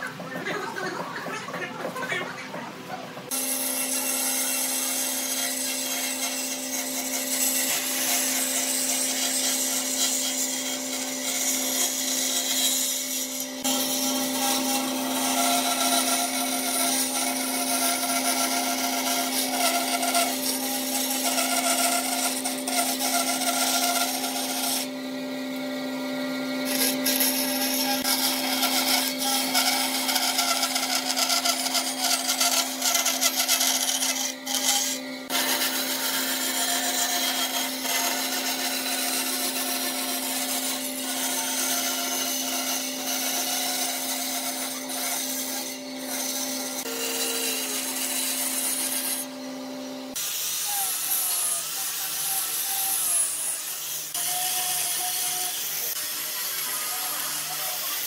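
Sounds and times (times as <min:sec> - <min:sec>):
band saw humming: 0:03.2 - 0:58.0
saw blade cutting wood: 0:03.3 - 0:58.0.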